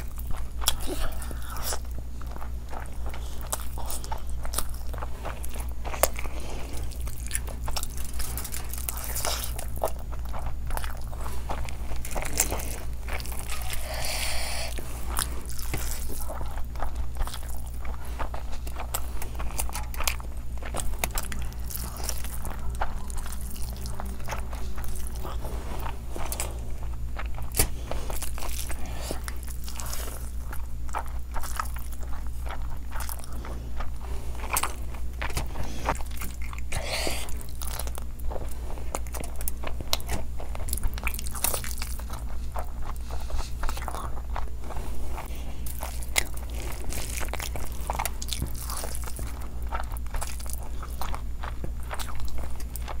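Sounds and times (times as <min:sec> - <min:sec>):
person chewing rice: 0:00.0 - 0:53.0
steady low hum: 0:00.0 - 0:53.0.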